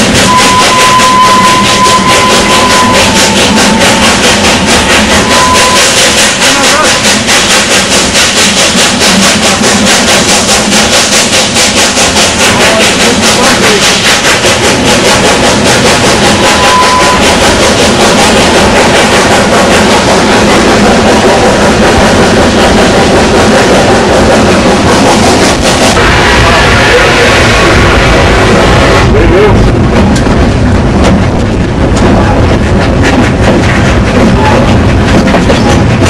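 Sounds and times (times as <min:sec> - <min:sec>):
steam train chugging: 0:00.0 - 0:36.0.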